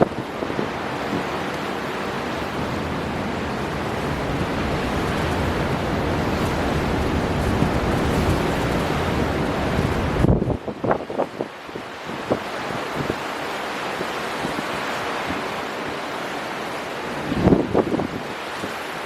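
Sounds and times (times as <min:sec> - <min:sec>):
rough sea surf: 0:00.0 - 0:19.0
storm wind: 0:00.0 - 0:19.0.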